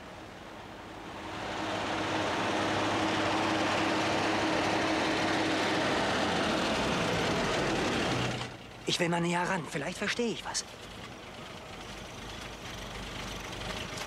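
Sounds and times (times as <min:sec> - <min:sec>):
truck engine on cobblestones: 0:00.0 - 0:14.0.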